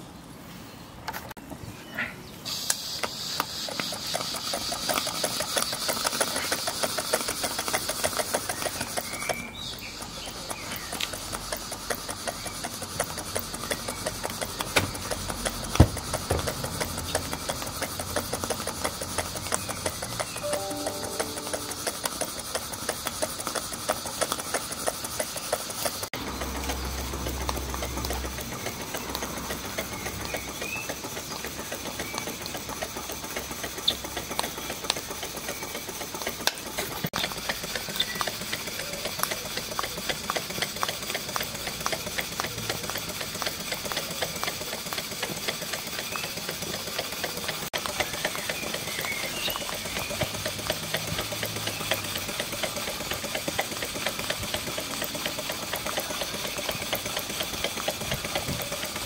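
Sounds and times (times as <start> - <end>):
steam engine ticking and clatter: 2.5 - 59.0.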